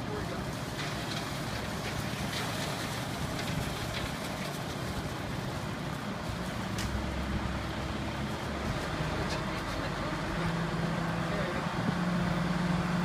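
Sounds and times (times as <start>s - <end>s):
diesel loader engine rumbling: 0.0s - 13.0s.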